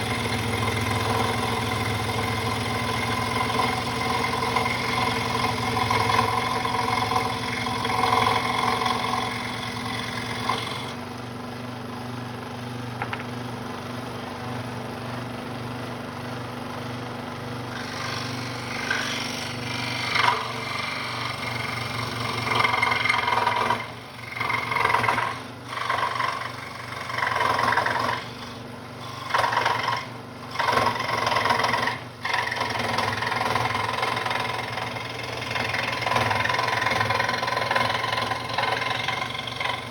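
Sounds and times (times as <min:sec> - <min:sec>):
scroll saw cutting wood: 0:00.0 - 0:11.0, 0:17.6 - 0:39.9
motor hum: 0:00.0 - 0:39.9.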